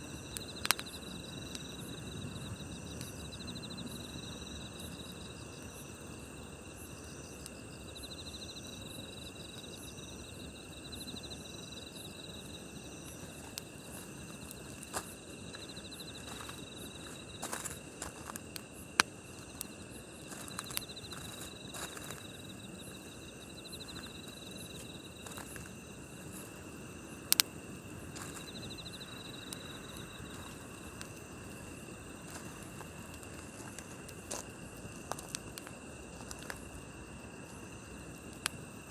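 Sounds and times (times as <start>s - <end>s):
burning wood crackles: 0.0s - 38.9s
campfire hiss: 0.0s - 38.9s
crickets chirping: 0.0s - 38.9s.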